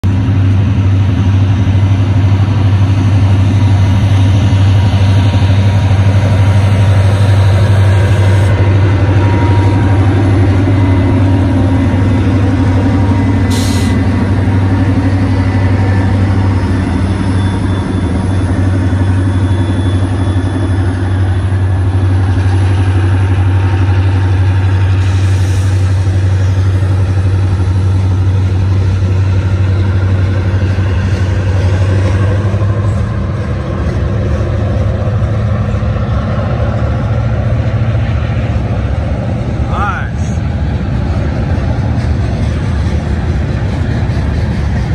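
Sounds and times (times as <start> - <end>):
diesel locomotives passing: 0.0 - 44.9.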